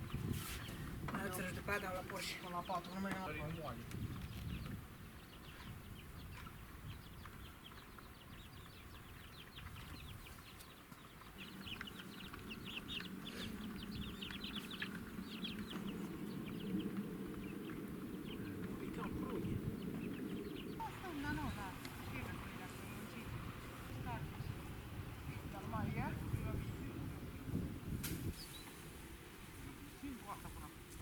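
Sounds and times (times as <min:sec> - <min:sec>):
chickens clucking and chirping: 0:00.0 - 0:31.0.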